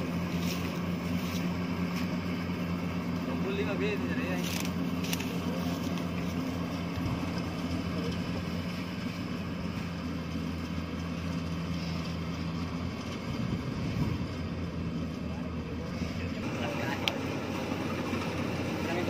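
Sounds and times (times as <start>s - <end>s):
combine harvester engine droning: 0.0s - 19.0s.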